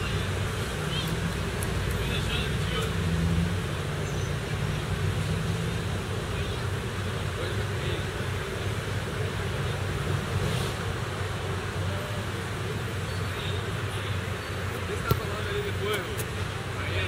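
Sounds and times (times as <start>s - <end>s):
road traffic din: 0.0s - 17.0s.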